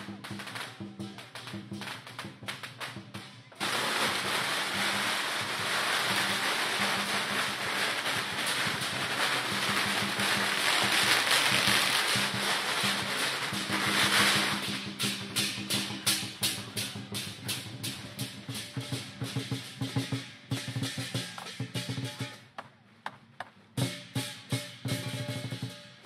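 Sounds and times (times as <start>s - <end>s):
firecrackers crackling: 0.0s - 22.4s
drum and cymbal beating: 0.0s - 22.6s, 23.7s - 26.0s.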